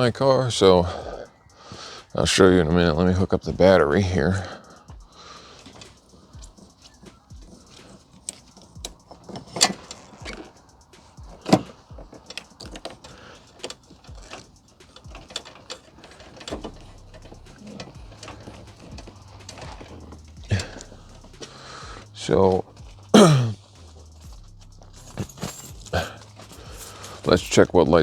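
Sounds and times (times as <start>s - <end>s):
tools clicking on battery terminal: 4.7s - 27.4s.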